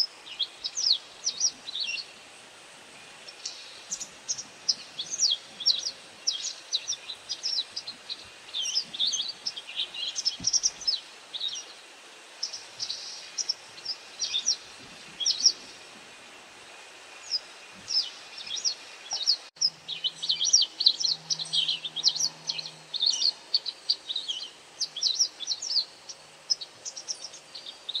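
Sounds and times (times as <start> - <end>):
bird chirping: 0.0 - 2.2, 3.2 - 11.8, 12.4 - 15.8, 17.2 - 28.0.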